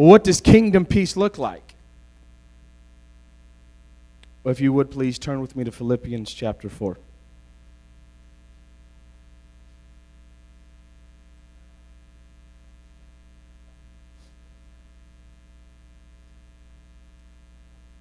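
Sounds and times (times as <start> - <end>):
faint electrical mains hum: 0.0 - 18.0.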